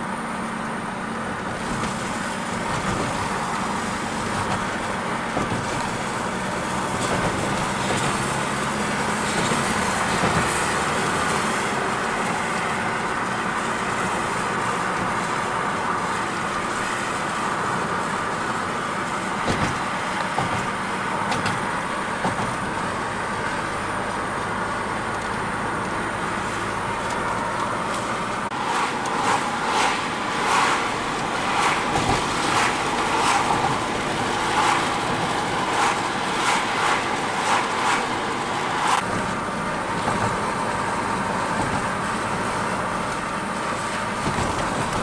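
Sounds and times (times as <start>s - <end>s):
car engine and tyre noise: 0.0s - 45.0s.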